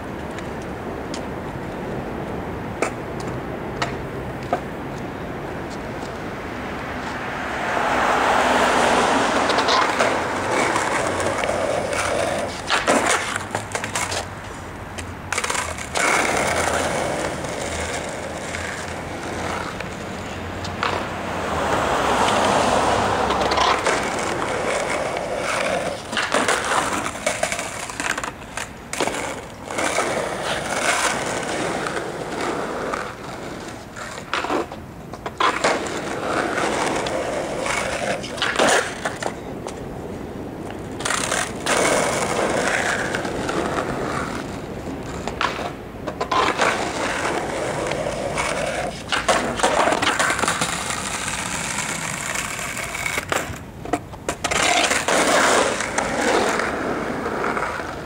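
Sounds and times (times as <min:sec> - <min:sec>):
skateboard clacking on ground: 0:00.0 - 0:06.3, 0:07.0 - 0:58.0
skateboard wheels rolling on pavement: 0:00.0 - 0:58.0.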